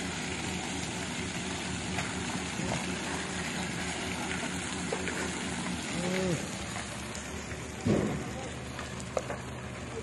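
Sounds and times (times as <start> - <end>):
garbage truck engine running: 0.0 - 10.0.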